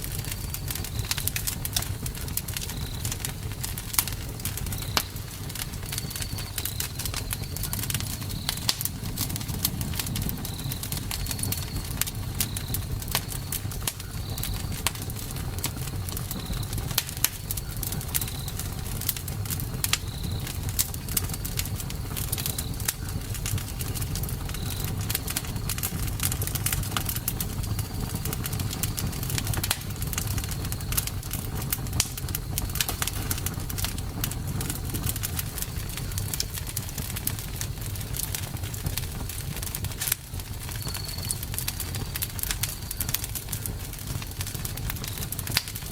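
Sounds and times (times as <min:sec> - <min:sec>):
campfire crackling and popping: 0:00.0 - 0:45.9
low rumble of flames: 0:00.0 - 0:45.9.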